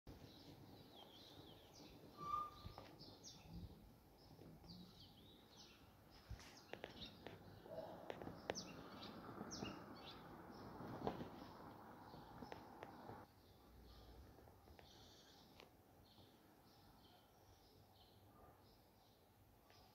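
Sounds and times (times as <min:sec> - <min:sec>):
faint small birds chirping: 0:00.1 - 0:19.9.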